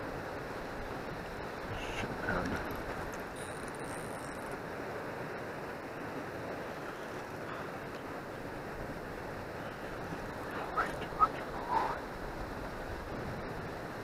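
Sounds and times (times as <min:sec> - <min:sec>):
river water: 0:00.0 - 0:14.0
wind rumbling on microphone: 0:00.0 - 0:14.0.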